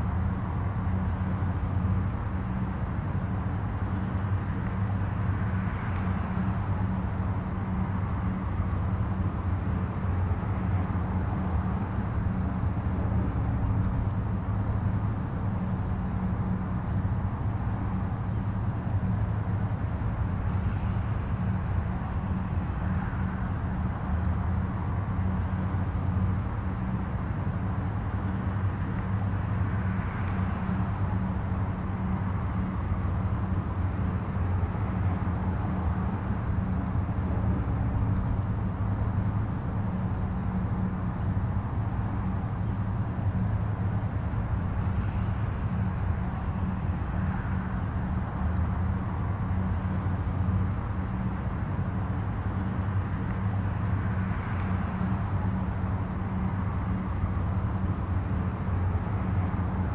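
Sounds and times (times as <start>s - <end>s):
distant highway traffic rumble: 0.0s - 59.9s
tyre hiss of passing vehicles: 0.0s - 59.9s.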